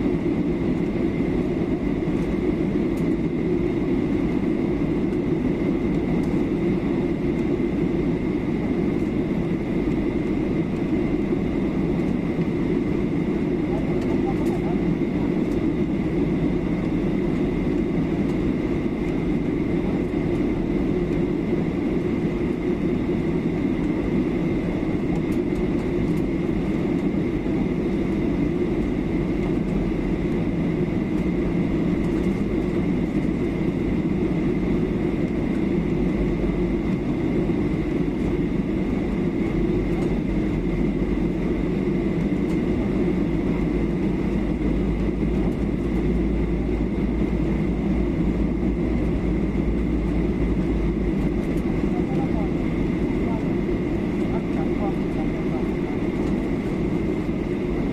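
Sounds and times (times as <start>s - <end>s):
airliner cabin engine drone: 0.0s - 57.9s.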